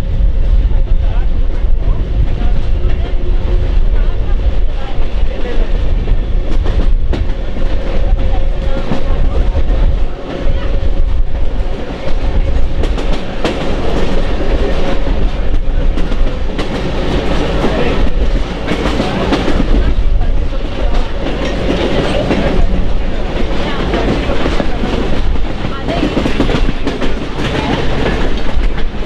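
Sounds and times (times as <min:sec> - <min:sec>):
train rumbling on rails: 0:00.0 - 0:29.0.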